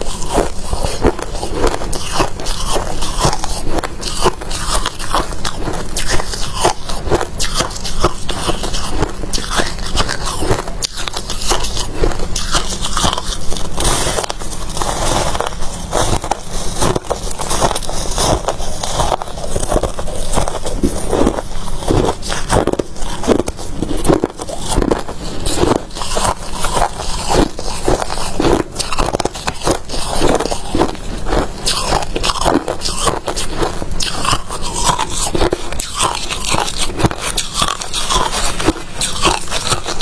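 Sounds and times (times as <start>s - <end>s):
person crunching ice: 0.0s - 40.0s.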